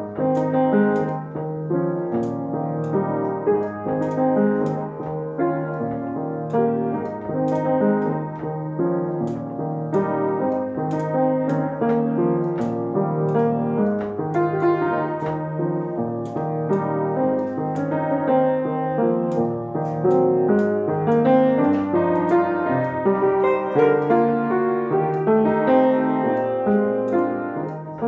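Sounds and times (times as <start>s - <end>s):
solo piano music: 0.0s - 28.0s.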